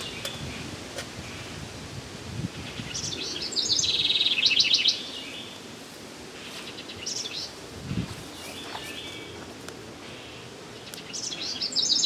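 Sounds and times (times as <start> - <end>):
songbird singing: 0.0 - 1.7, 2.4 - 12.0.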